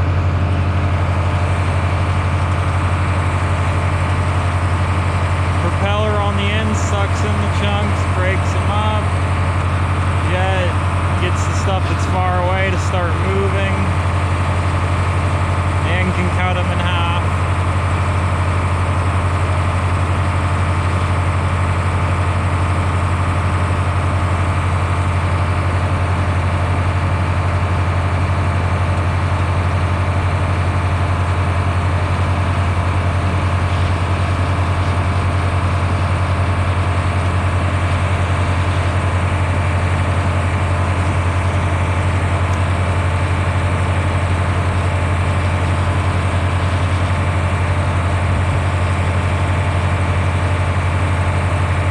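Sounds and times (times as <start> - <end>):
heavy engine droning: 0.0 - 51.9.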